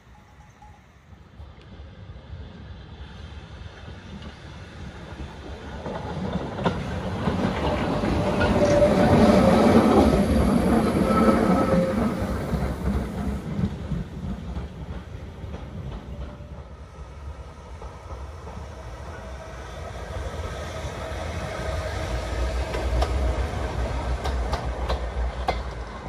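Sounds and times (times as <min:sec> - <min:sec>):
electric railcar rumbling on track: 0:00.0 - 0:26.0
railcar clicks: 0:00.2 - 0:01.9, 0:03.6 - 0:26.0.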